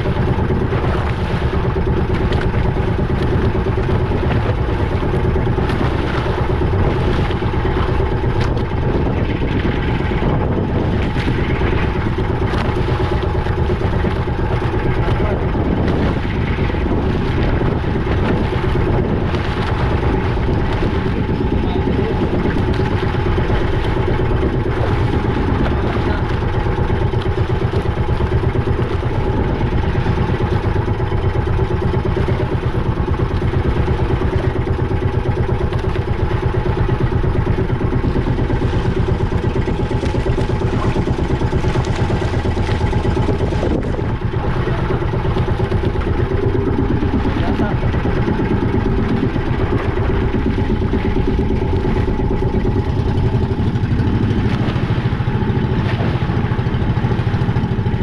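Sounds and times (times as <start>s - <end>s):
boat engine throbbing: 0.0s - 58.0s.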